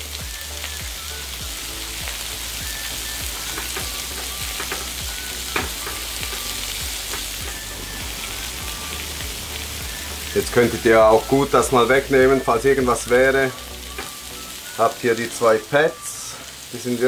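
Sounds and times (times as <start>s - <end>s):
meat sizzling on grill plate: 0.0s - 17.0s.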